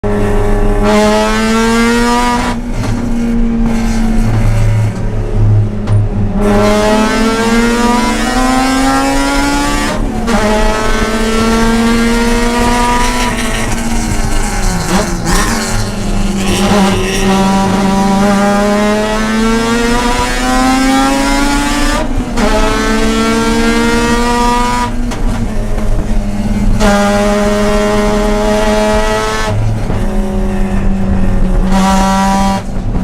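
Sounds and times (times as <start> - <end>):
rotary engine racing: 6.4 - 33.0.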